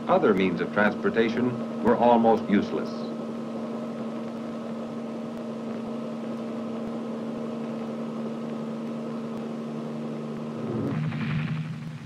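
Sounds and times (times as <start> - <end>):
mechanical drone: 0.0 - 12.0.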